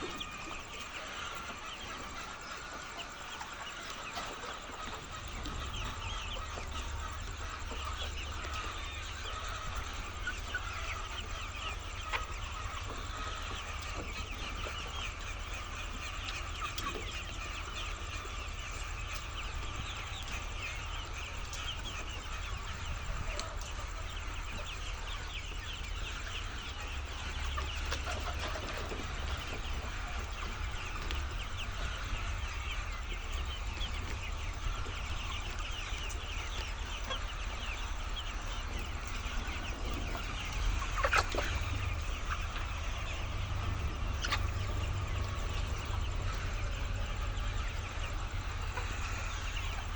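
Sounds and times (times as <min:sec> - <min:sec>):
hens clucking and calling: 0:00.0 - 0:49.9.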